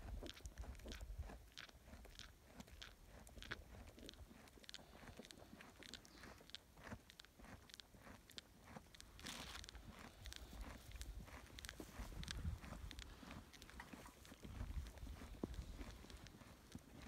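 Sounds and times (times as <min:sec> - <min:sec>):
calf chewing bread: 0:00.0 - 0:17.0.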